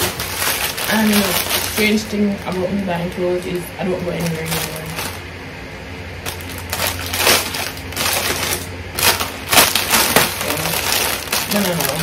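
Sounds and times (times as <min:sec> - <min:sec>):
clothing rustling and crinkling: 0:00.0 - 0:05.3, 0:06.2 - 0:12.0
low steady hum: 0:00.0 - 0:12.0.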